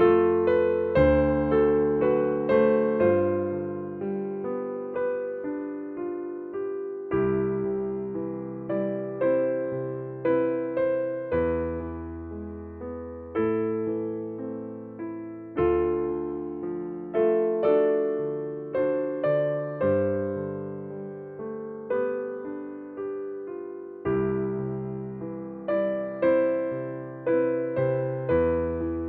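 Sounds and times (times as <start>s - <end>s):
electric piano chords: 0.0s - 29.0s.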